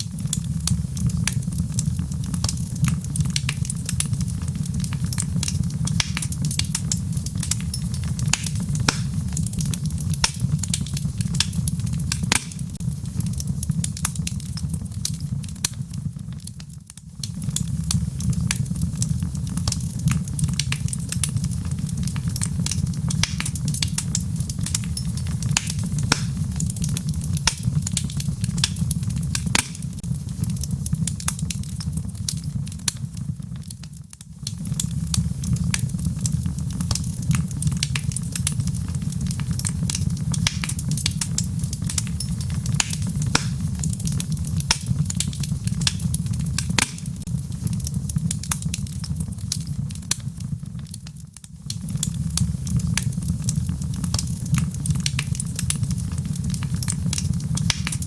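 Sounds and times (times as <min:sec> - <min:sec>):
sharp fire pops and snaps: 0:00.0 - 0:58.0
wood fire crackling: 0:00.0 - 0:58.0.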